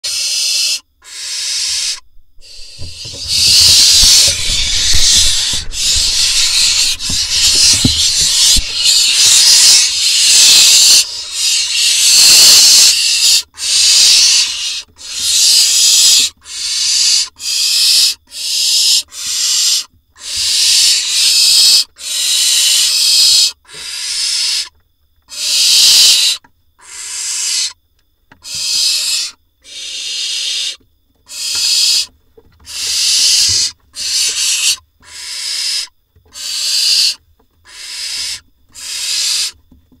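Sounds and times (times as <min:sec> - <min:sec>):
owl chicks hissing calls: 0:00.0 - 0:24.7, 0:25.3 - 0:27.8, 0:28.4 - 0:39.6.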